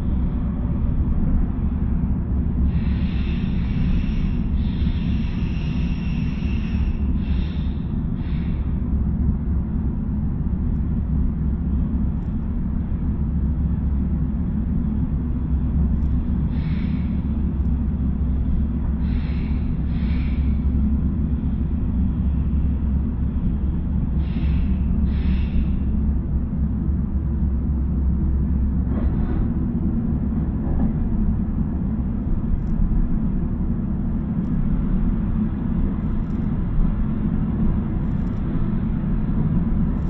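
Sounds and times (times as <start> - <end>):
train rumbling: 0.0 - 40.0.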